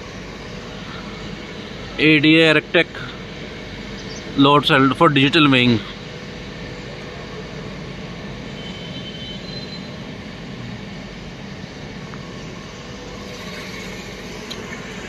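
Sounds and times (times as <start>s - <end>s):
steady rumbling background noise: 0.0s - 15.0s.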